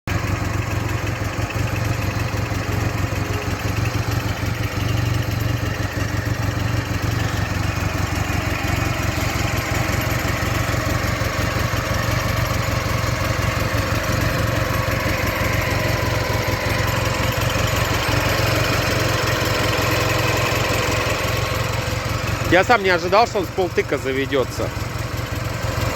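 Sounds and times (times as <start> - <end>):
motorcycle engine idling: 0.1 - 25.9.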